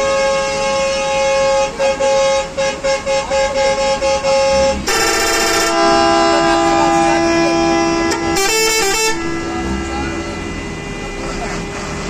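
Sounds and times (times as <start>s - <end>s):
bus air horn chord: 0.0s - 12.0s.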